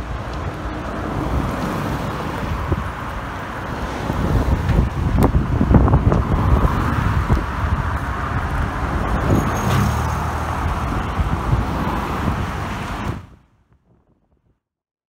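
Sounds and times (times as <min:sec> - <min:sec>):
pickup truck passing: 0:00.0 - 0:13.4
road traffic passing: 0:00.0 - 0:13.5.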